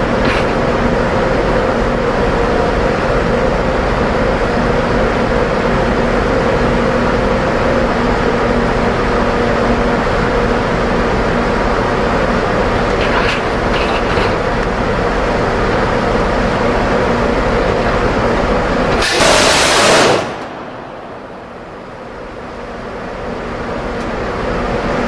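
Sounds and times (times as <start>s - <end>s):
ship machinery hum: 0.0s - 25.0s.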